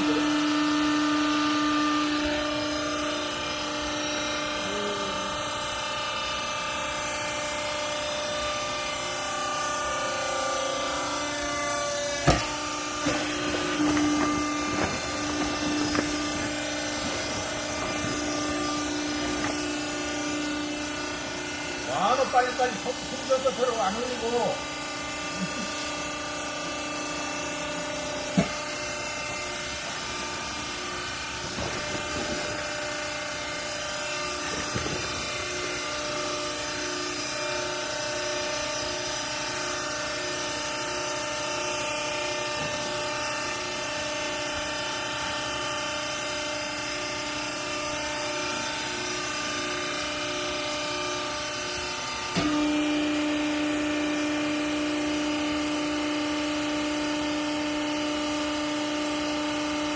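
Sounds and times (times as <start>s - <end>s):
hydraulic power unit humming: 0.0s - 59.9s.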